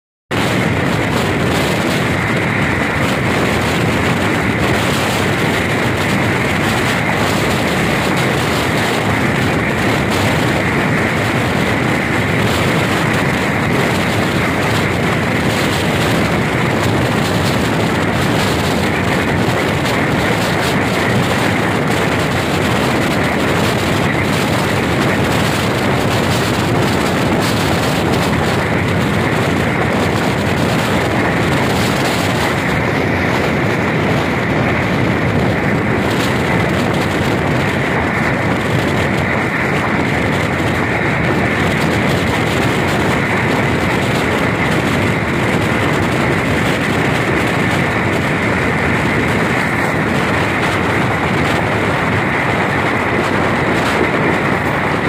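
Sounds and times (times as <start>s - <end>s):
constant high hum: 0.3s - 55.0s
train wheels rushing on rails: 0.3s - 55.0s.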